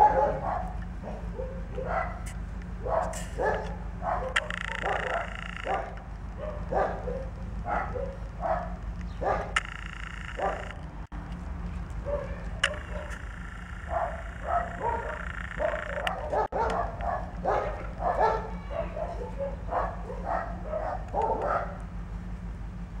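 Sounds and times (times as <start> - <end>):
hens clucking: 0.0 - 11.0, 12.0 - 21.5.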